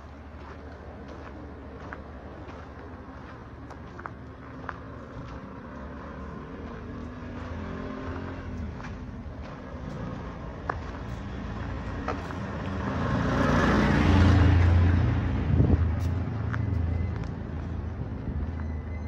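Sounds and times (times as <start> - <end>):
low traffic hum: 0.0 - 19.0
vehicle passing by: 0.0 - 19.0.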